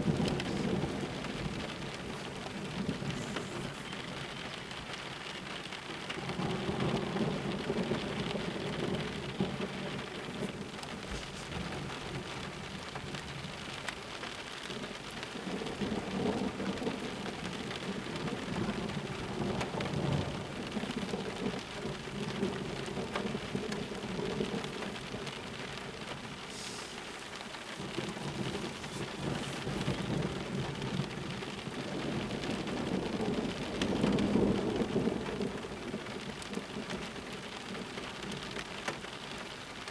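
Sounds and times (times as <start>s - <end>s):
thunder rumbling: 0.0s - 38.6s
steady rain: 0.0s - 39.9s.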